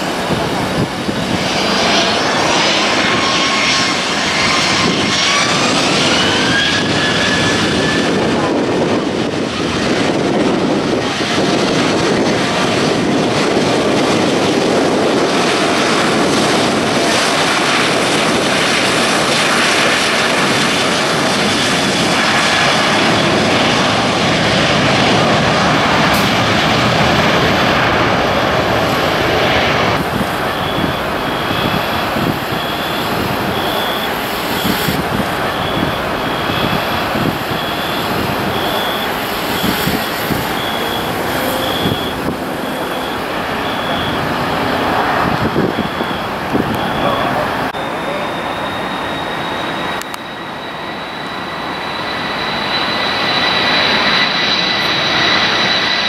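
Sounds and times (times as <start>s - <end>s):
jet engines whining and roaring: 0.0s - 56.0s.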